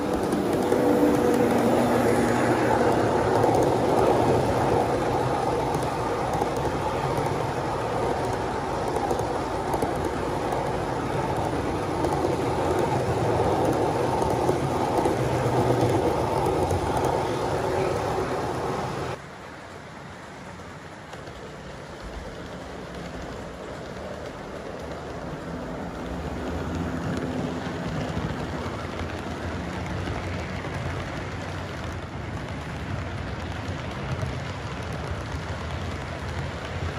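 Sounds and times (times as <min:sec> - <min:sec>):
model train wheels on track: 0:00.0 - 0:36.9.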